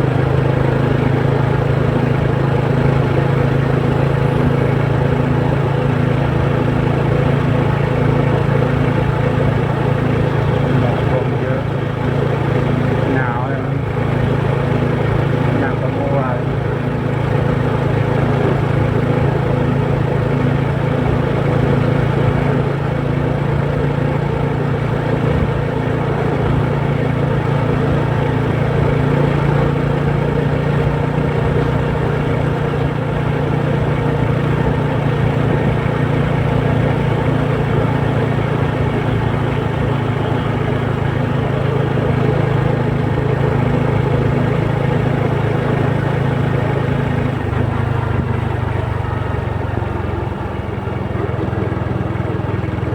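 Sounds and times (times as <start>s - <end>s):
engine droning: 0.0s - 52.9s.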